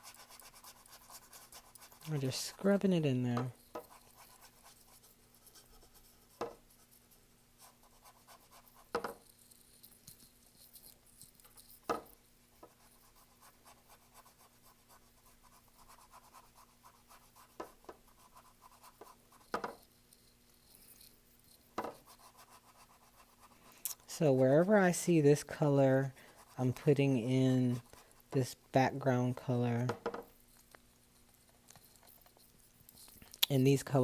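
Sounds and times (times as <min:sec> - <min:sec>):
paintbrush scratching on canvas: 0:00.0 - 0:34.0.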